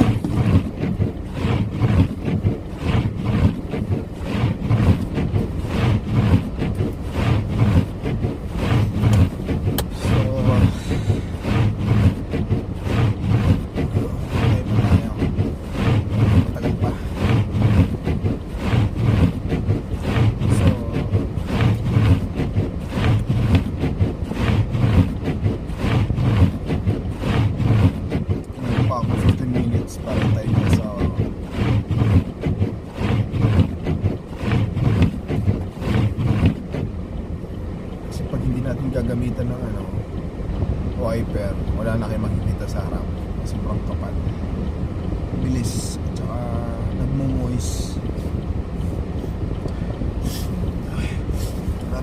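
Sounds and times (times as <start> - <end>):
car engine and road rumble: 0.0 - 52.0
windshield wipers swishing: 0.0 - 52.0.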